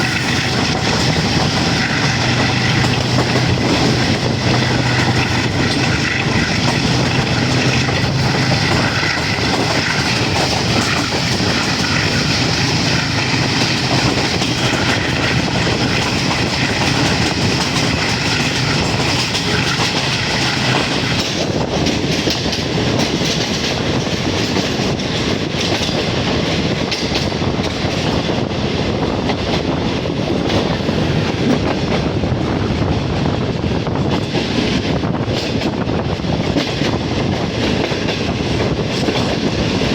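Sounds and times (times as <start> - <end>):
train engine hum: 0.0 - 39.9
train wheels rumbling on rails: 0.0 - 39.9.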